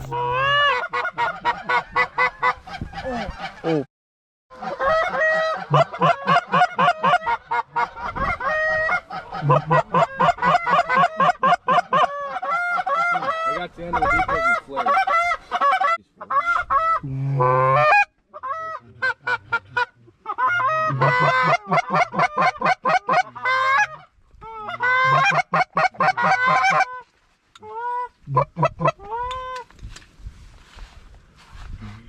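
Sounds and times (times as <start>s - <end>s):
geese honking and clucking: 0.0s - 3.9s, 4.5s - 29.7s.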